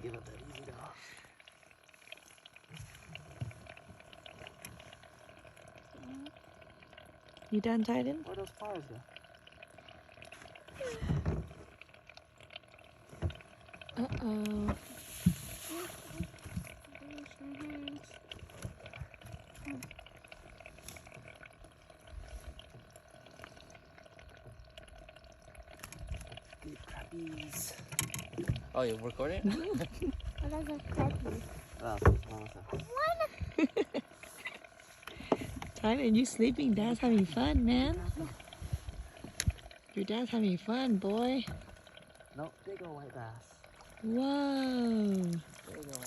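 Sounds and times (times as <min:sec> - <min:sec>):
faint steady hum: 0:00.0 - 0:46.0
water lapping and trickling: 0:00.0 - 0:46.0.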